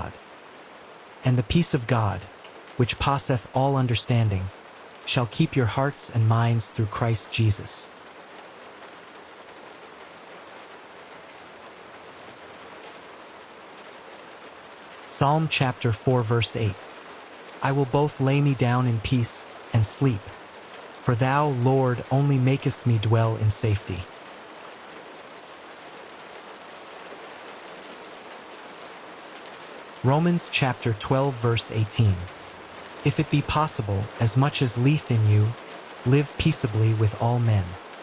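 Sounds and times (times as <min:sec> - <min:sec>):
gentle rain falling: 0:00.0 - 0:38.0.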